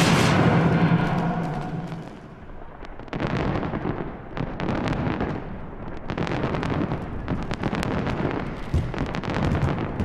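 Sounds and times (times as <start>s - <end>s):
firework crackles: 0.0s - 10.0s.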